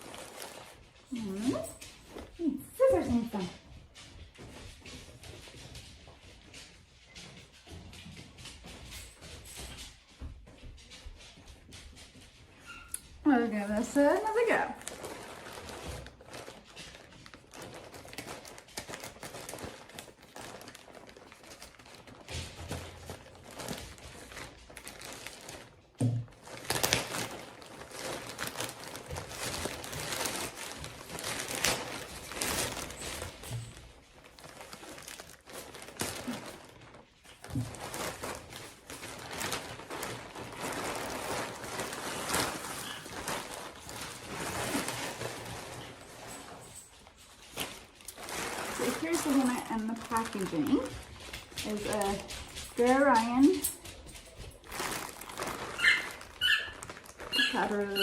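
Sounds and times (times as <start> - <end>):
plastic packaging crinkling: 0.0 - 5.8, 12.6 - 58.0.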